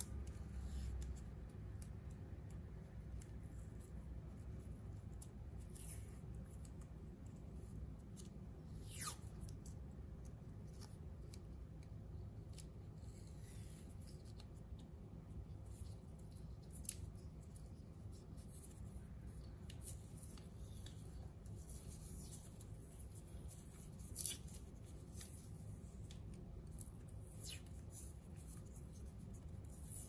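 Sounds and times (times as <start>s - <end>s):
tape rasping and crinkling: 0.0s - 30.0s.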